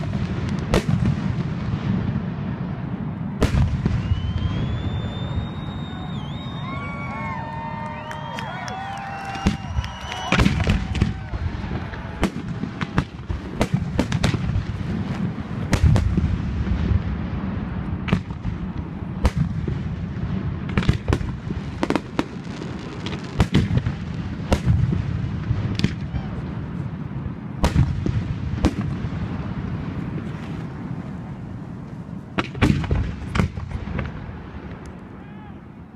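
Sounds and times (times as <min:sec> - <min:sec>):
fireworks bursting: 0:00.0 - 0:35.3.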